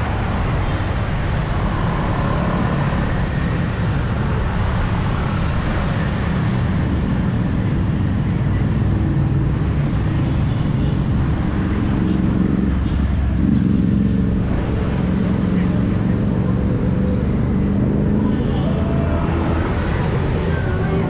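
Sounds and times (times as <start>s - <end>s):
road traffic engine rumble: 0.0s - 21.0s.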